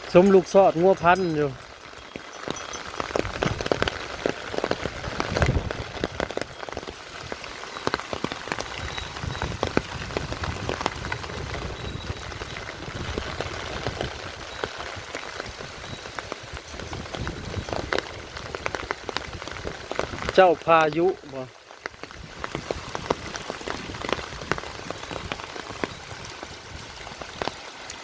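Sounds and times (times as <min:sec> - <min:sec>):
rain falling: 0:00.0 - 0:28.0
raindrops tapping: 0:00.0 - 0:28.0.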